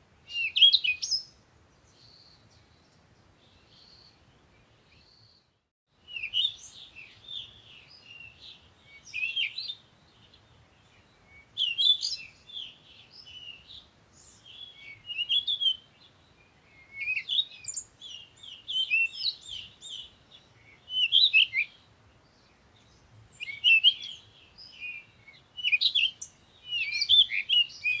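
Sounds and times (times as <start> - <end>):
birds chirping and twittering: 0.3 - 28.0.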